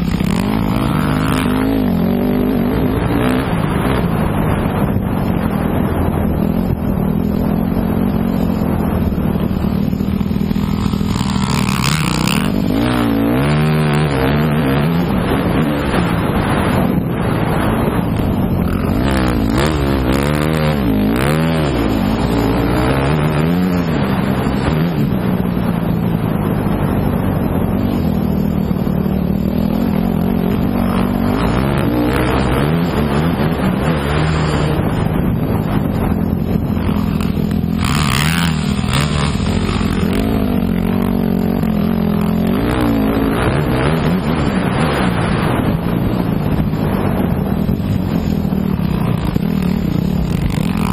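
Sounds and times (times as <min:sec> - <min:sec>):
motocross bike engine: 0:00.0 - 0:50.9.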